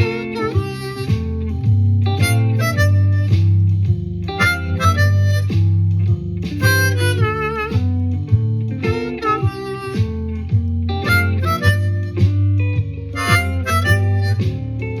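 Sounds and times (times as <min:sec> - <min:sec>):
blues harmonica playing: 0:00.0 - 0:01.6, 0:02.2 - 0:03.7, 0:04.4 - 0:05.8, 0:06.6 - 0:08.2, 0:08.8 - 0:14.6
guitar blues shuffle backing: 0:00.0 - 0:15.0.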